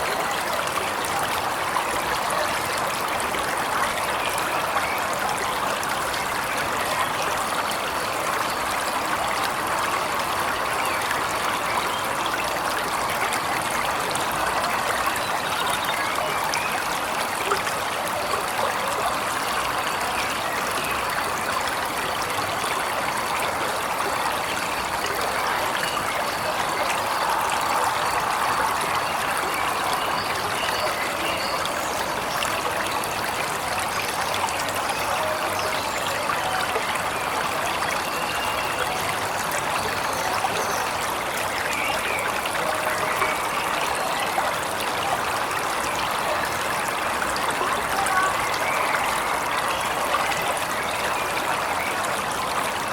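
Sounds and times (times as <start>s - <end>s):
waterfall rushing water: 0.0s - 52.9s.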